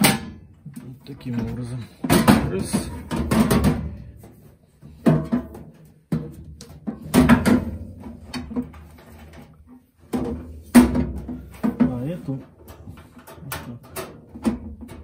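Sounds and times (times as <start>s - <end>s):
metal knocks and bumps: 0.0s - 15.0s.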